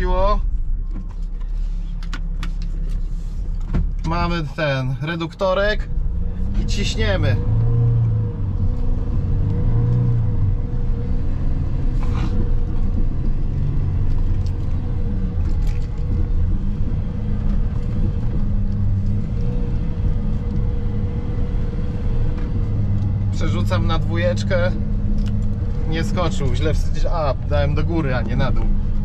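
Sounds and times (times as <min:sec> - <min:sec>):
van engine droning: 0:00.0 - 0:29.0.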